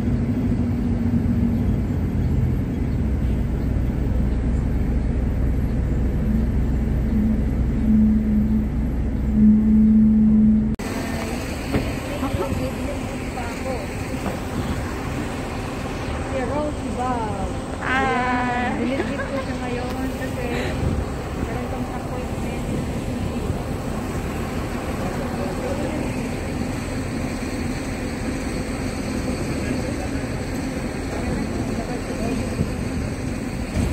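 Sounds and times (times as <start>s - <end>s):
engine and road rumble: 0.0s - 33.9s
mid-pitched hum: 0.0s - 33.9s.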